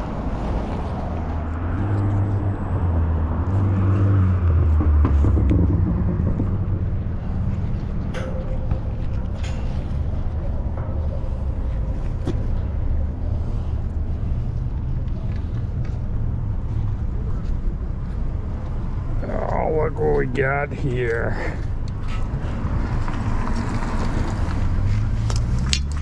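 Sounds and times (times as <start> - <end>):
steady traffic rumble: 0.0 - 26.0
vehicle engine passing: 0.0 - 26.0.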